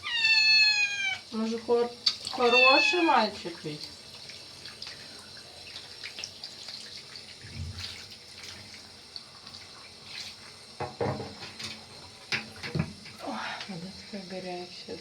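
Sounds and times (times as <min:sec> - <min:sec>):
tap water running: 0:00.8 - 0:15.0
water drips and splashes: 0:01.3 - 0:13.8.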